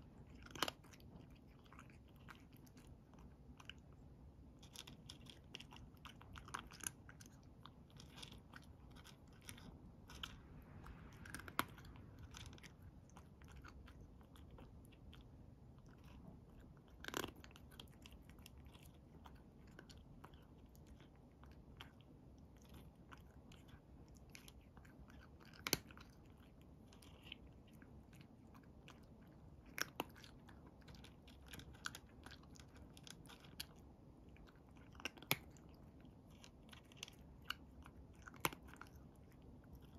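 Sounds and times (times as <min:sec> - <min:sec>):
cat crunching dry kibble: 0:00.0 - 0:39.9.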